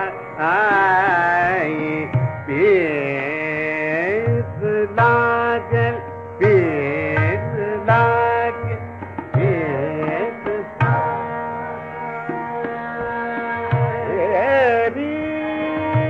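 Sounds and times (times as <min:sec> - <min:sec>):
man singing classical vocal: 0:00.0 - 0:12.2, 0:13.6 - 0:16.0
tabla strokes: 0:00.0 - 0:16.0.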